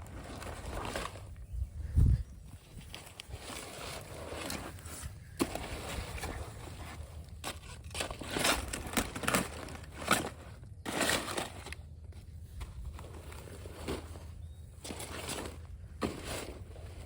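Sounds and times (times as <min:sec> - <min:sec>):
brush rustling and crunching: 0:00.0 - 0:17.0.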